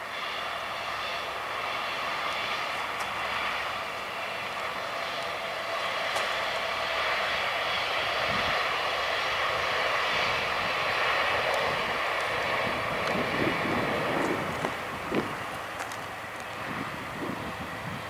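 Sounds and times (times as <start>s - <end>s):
distant train engine and rolling: 0.0s - 18.0s.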